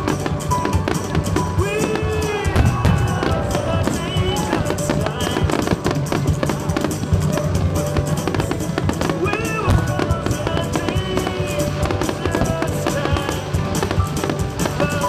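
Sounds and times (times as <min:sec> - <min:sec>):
melody line: 0:00.0 - 0:15.0
steady drum beat: 0:00.0 - 0:15.0.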